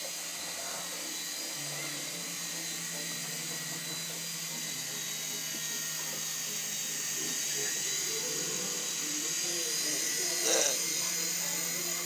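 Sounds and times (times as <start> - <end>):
toy helicopter rotors whirring: 0.0 - 12.0.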